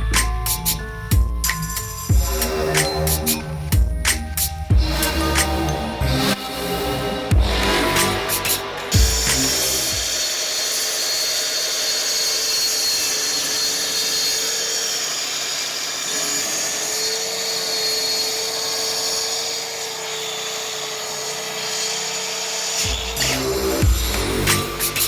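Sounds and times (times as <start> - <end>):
track saw motor whine: 0.0 - 25.0
saw blade hissing through wood: 0.2 - 25.0.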